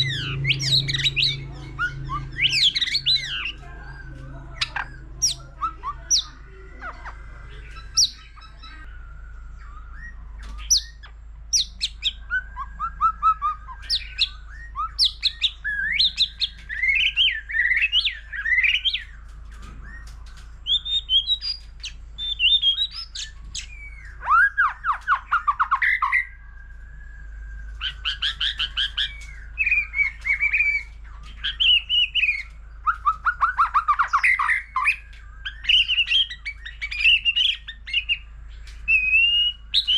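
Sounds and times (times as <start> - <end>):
songbird singing whistled phrases: 0.0 - 39.9.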